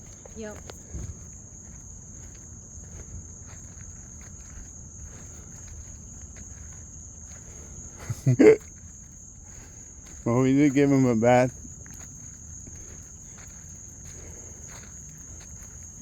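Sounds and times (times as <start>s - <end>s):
footsteps scuffing on trail: 0.0s - 16.0s
night insects chorus: 0.0s - 16.0s.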